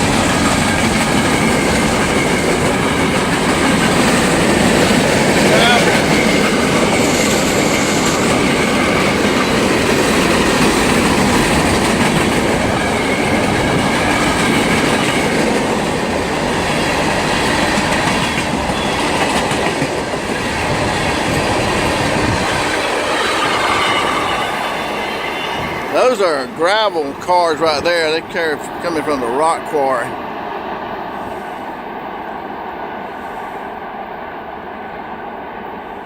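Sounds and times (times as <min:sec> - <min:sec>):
freight train wheels on rails: 0:00.0 - 0:36.0.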